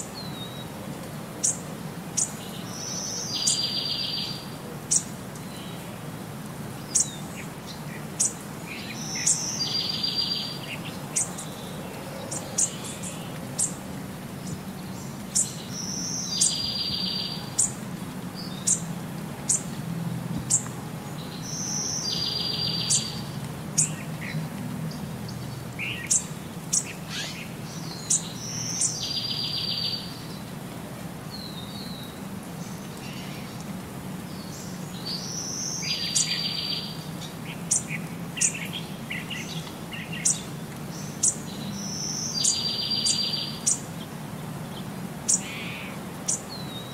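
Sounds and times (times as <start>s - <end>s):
birds chirping: 1.4s - 6.1s, 6.7s - 30.5s, 31.3s - 46.9s.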